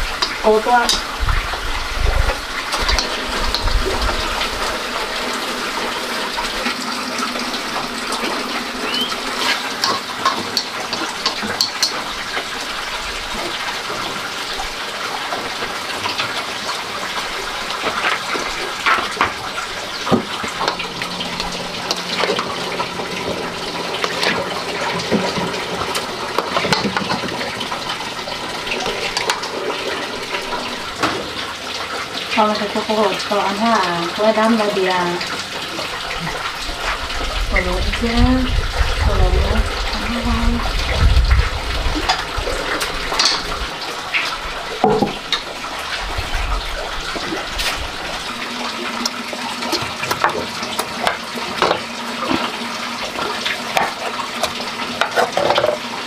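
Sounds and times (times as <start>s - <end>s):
stir-frying sizzle with crackles: 0.0s - 56.0s.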